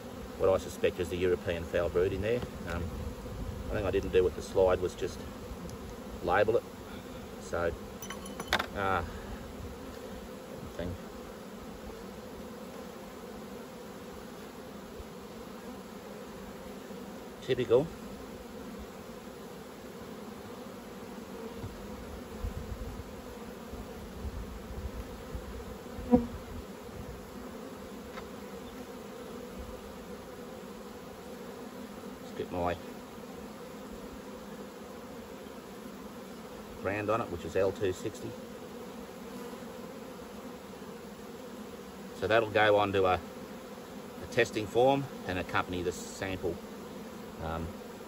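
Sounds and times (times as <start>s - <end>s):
honeybees humming: 0.0s - 48.0s.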